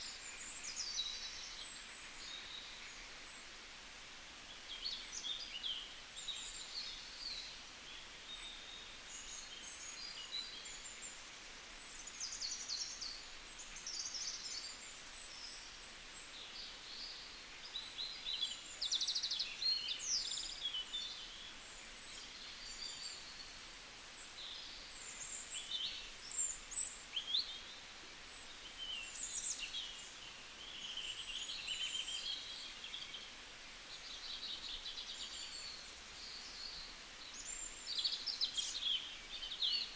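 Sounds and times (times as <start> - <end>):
faint steady hiss: 0.0 - 39.9
small birds chirping and trilling: 4.5 - 39.9.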